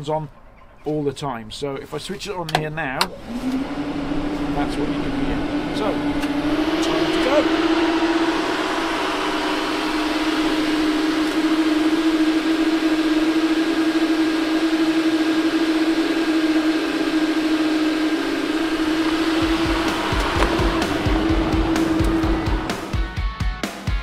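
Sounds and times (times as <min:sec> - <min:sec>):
electric cooling fans running: 0:02.7 - 0:23.3.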